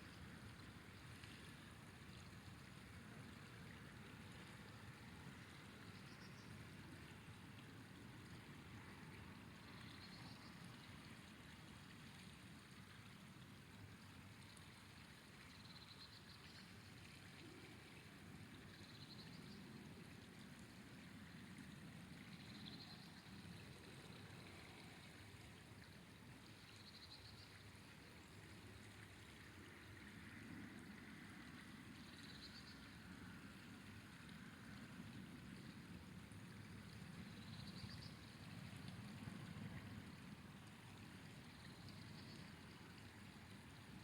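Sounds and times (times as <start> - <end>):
river flowing: 0.0 - 44.0.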